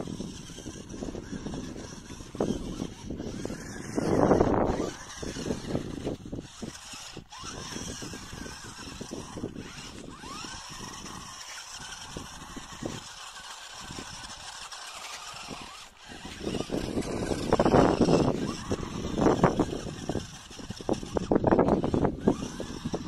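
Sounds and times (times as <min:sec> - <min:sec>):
small electric motor whine: 0:00.0 - 0:23.0
tyres crunching in dirt: 0:00.0 - 0:23.0.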